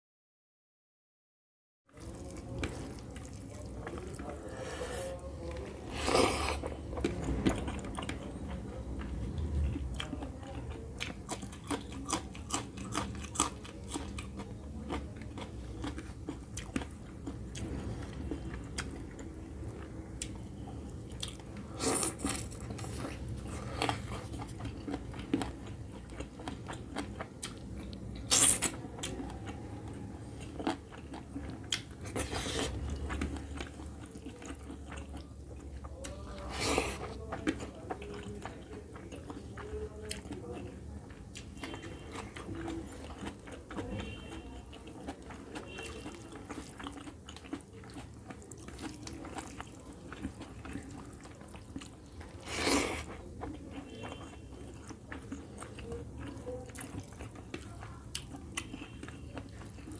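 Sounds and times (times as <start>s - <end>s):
person chewing and lip-smacking: 5.5s - 59.9s.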